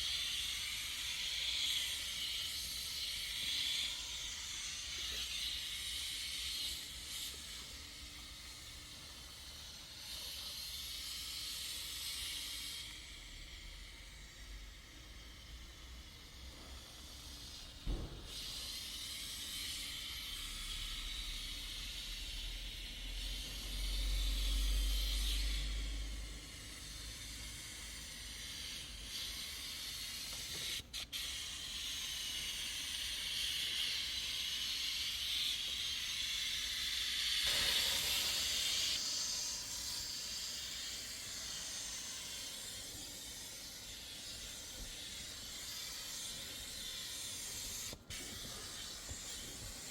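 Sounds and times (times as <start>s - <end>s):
cleaning nozzle spraying hiss: 0.0s - 49.9s.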